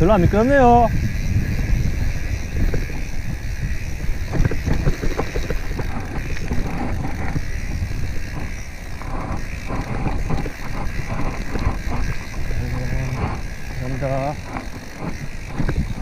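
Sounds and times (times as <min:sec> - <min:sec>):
bike knocks and rattles: 0:00.0 - 0:16.0
mountain bike rumbling on trail: 0:00.0 - 0:16.0
wind over microphone: 0:00.0 - 0:16.0.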